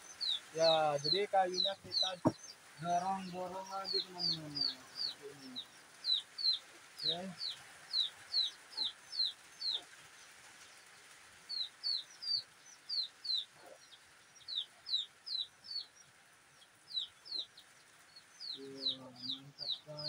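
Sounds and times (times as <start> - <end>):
bird peeping: 0.0 - 20.0
faint steady hiss: 0.0 - 20.0.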